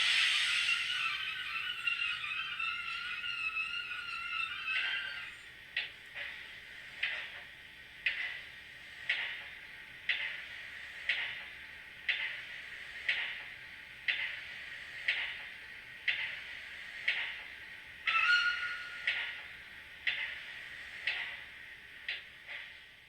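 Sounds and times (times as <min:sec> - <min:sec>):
model steam locomotive chuffing: 0:00.0 - 0:23.0.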